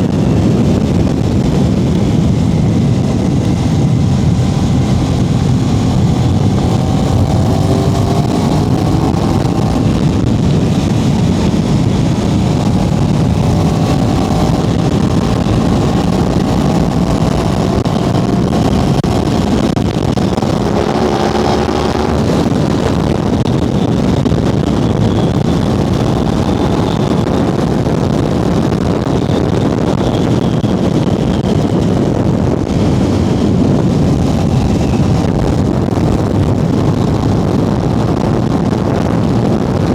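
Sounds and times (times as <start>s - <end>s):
motorcycle engine running: 0.0s - 39.9s
riding wind noise: 0.0s - 39.9s.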